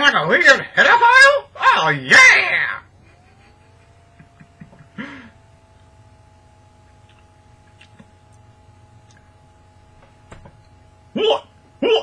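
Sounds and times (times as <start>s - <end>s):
faint steady tones: 0.0s - 12.0s.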